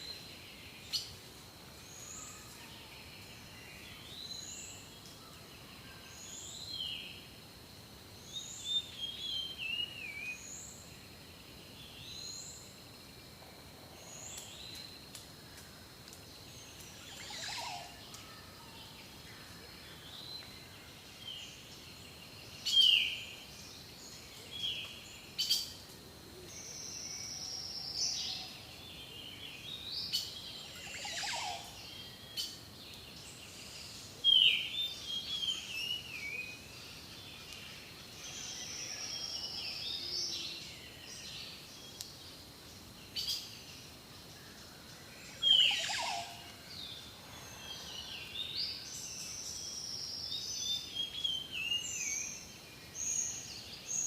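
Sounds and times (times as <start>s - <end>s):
background hiss: 0.0s - 54.0s
songbirds singing: 0.0s - 54.0s.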